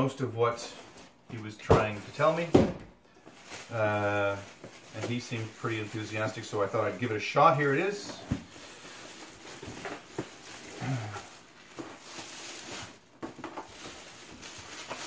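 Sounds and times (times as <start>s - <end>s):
plastic bag crinkling: 1.4s - 15.0s.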